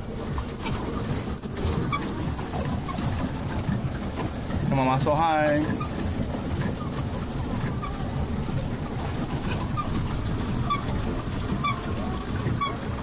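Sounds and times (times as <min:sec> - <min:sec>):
wind and churning water: 0:00.0 - 0:13.0.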